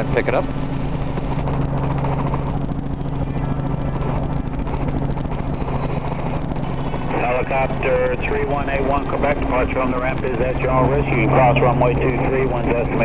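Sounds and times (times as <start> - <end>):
helicopter humming: 0.0 - 13.0.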